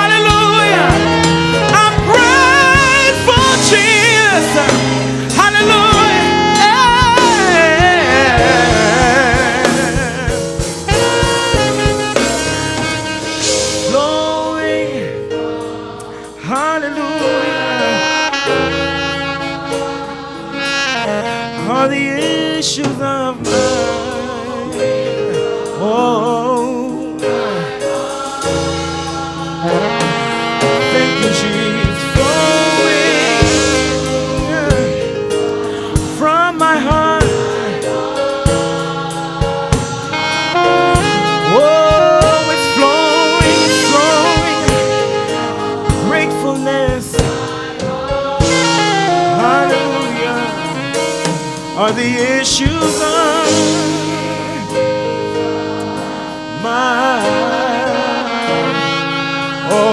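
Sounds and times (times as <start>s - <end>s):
gospel singing over a band: 0.0s - 59.9s
saxophone lead melody: 0.0s - 59.9s.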